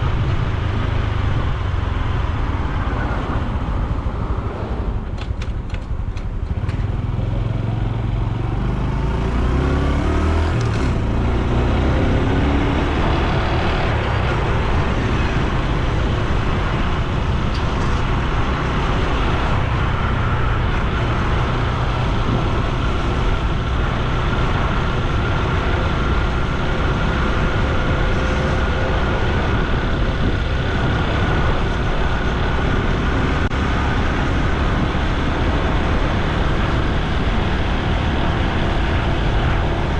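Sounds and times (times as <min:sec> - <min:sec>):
motorcycle engine and exhaust: 0:00.0 - 0:39.9
road noise: 0:00.0 - 0:39.9.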